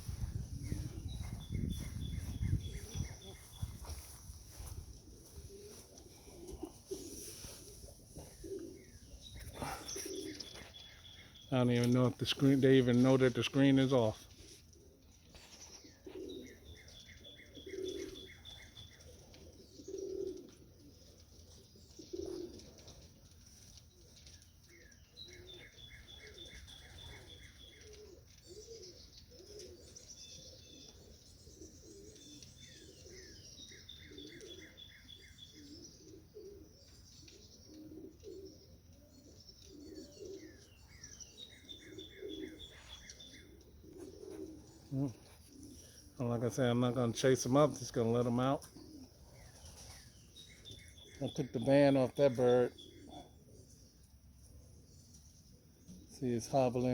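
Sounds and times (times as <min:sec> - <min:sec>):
pigeons cooing softly: 0:00.0 - 0:56.9
songbird chirping: 0:00.0 - 0:56.9.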